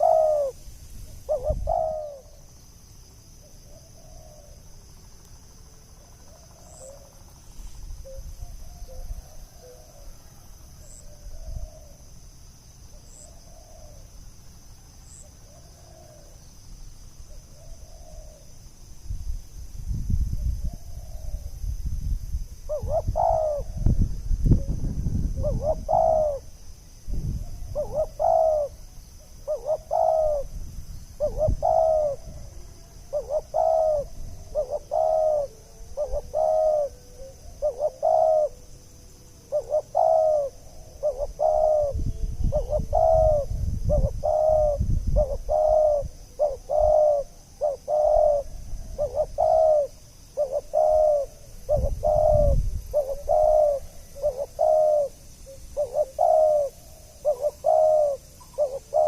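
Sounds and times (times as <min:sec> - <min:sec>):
dove cooing: 0:00.0 - 0:02.5, 0:03.4 - 0:04.8, 0:05.7 - 0:12.1, 0:12.9 - 0:14.2, 0:15.0 - 0:16.4, 0:17.2 - 0:18.6, 0:20.4 - 0:21.6, 0:22.7 - 0:26.6, 0:27.4 - 0:30.5, 0:31.2 - 0:59.0.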